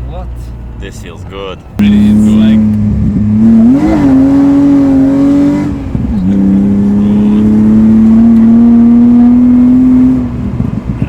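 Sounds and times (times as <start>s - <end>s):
car engine accelerating: 1.8s - 11.0s.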